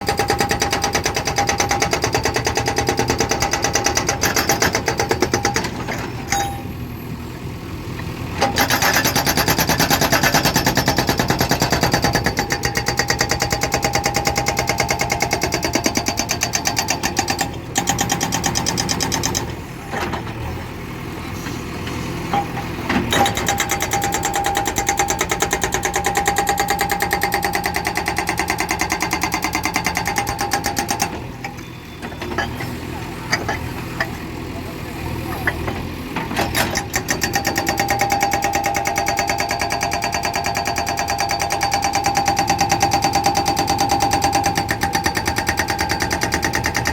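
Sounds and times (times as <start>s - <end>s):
bulldozer diesel engine knocking: 0.0s - 6.3s, 8.4s - 20.4s, 22.2s - 46.9s.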